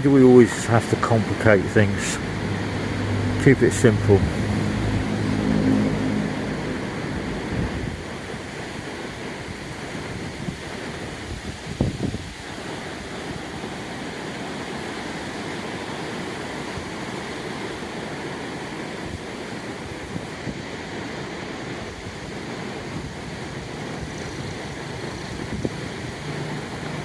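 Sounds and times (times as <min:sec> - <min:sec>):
sea surf washing on beach: 0:00.0 - 0:27.0
wind buffeting microphone: 0:00.7 - 0:14.1, 0:18.4 - 0:26.6.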